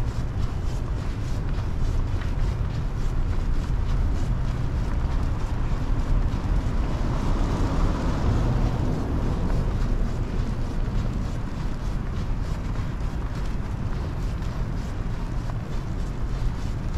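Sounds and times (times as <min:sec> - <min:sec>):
street noise: 0:00.0 - 0:16.9
wind rumbling on microphone: 0:00.0 - 0:16.9.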